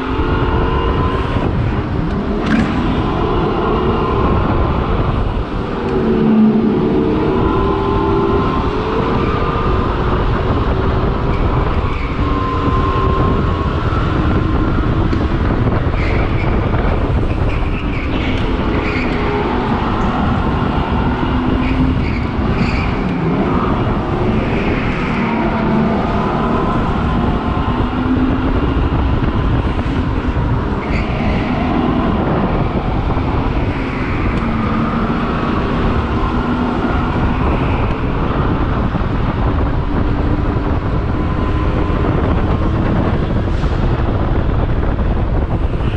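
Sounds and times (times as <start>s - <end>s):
steady noisy rush: 0.0s - 45.9s.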